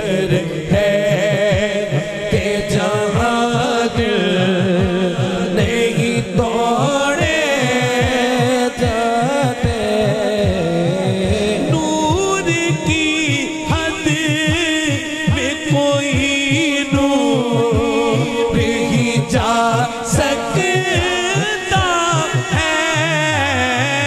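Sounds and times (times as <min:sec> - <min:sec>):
low rhythmic beat: 0:00.0 - 0:24.0
man singing into a microphone: 0:00.0 - 0:24.0.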